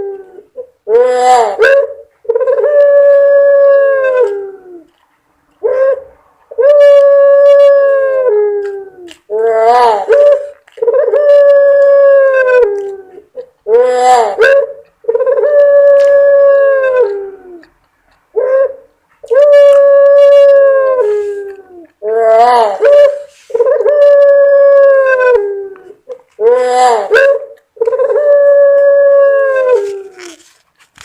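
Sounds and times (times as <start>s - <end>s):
dove cooing: 0.0s - 4.9s, 5.6s - 30.4s.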